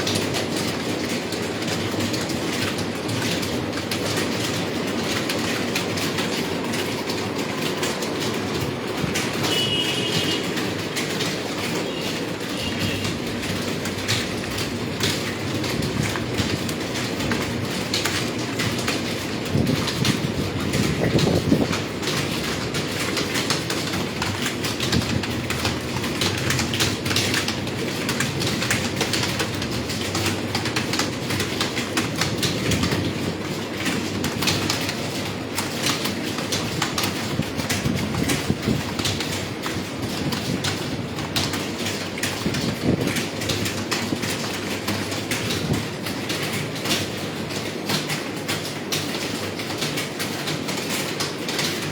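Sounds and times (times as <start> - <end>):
keyboard typing: 1.8 - 51.9.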